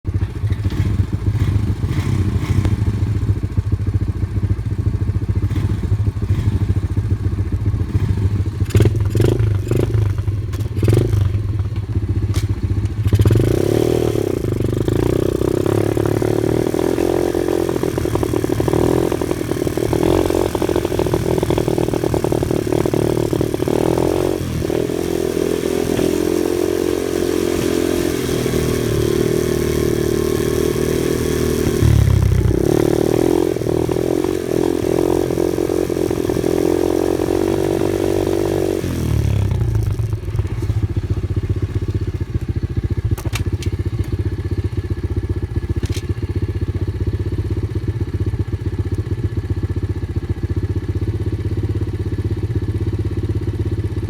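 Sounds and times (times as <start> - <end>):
vehicle engine running: 0.1 - 54.0.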